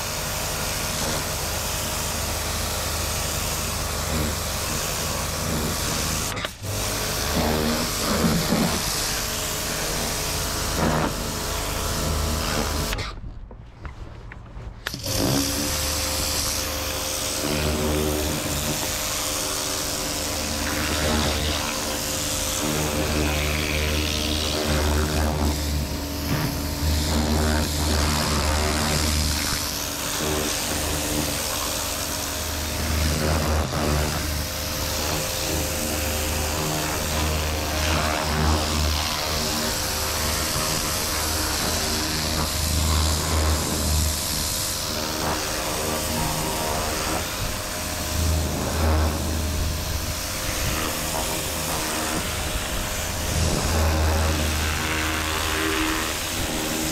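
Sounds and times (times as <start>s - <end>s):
water spray hissing: 0.0s - 13.0s, 14.9s - 56.9s
pressure washer motor humming: 0.0s - 13.1s, 14.8s - 56.9s.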